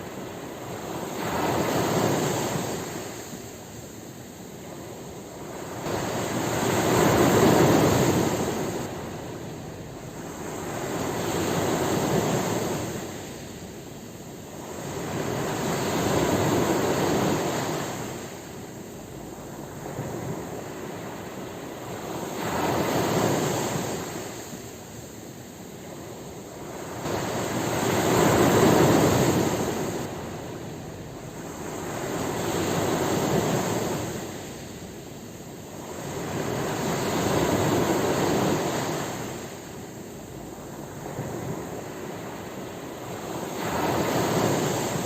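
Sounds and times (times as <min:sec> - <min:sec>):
ocean waves washing ashore: 0:00.0 - 0:45.0.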